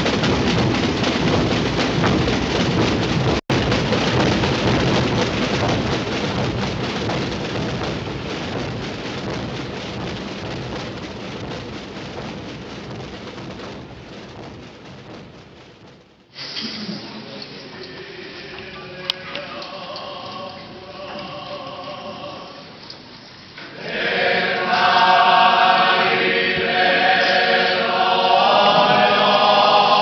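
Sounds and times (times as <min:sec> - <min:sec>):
massed snare and bass drums rolling: 0:00.0 - 0:18.7, 0:23.7 - 0:30.0.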